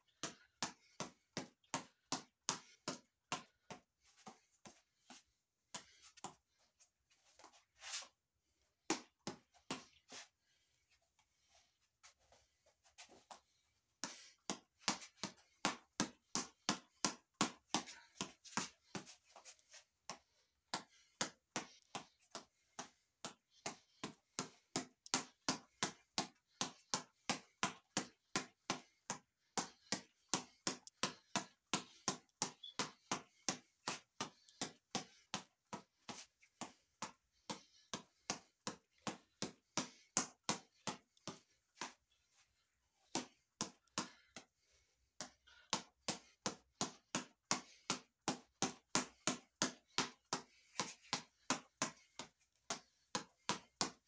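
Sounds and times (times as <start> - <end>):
fists slapping reflex ball: 0.0 - 6.6, 8.8 - 10.3, 13.0 - 54.0.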